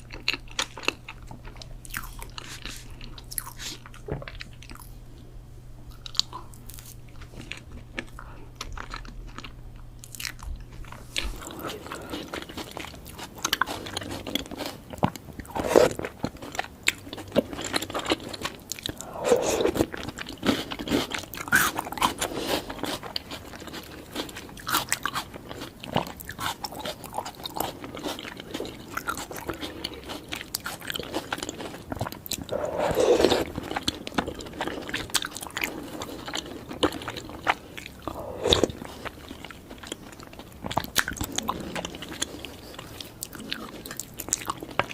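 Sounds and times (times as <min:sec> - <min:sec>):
person chewing sticky sweets: 0:00.0 - 0:05.2, 0:05.8 - 0:44.9.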